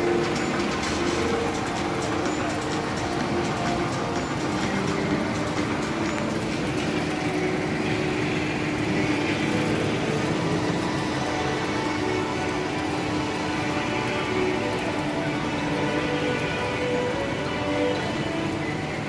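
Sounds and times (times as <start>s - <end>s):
faint background music: 0.0s - 19.0s
station concourse hum: 0.0s - 19.0s.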